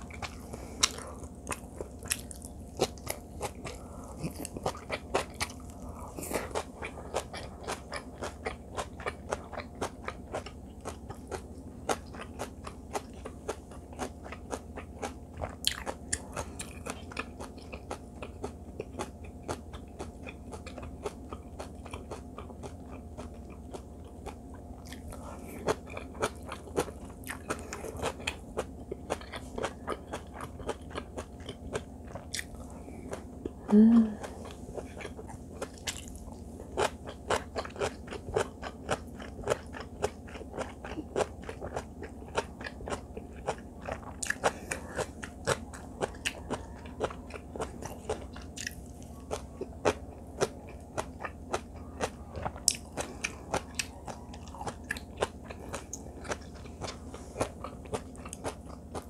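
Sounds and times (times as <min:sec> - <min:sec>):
person chewing: 0:00.0 - 0:59.0.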